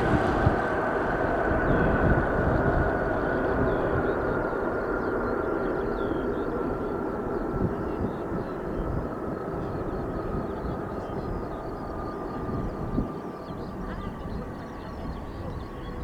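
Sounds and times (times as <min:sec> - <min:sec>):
jet engines rumbling and whining: 0:00.0 - 0:14.6.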